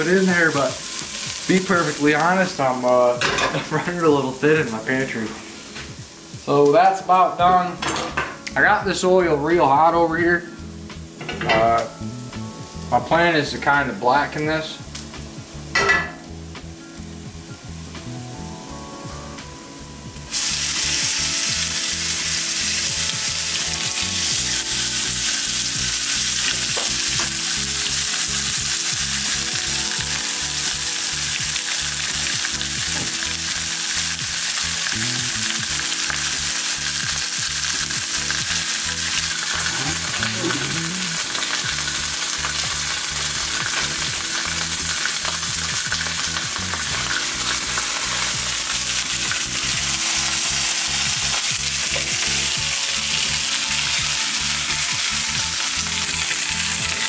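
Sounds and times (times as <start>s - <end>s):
fish sizzling in hot oil: 0.0s - 9.3s, 19.4s - 57.0s.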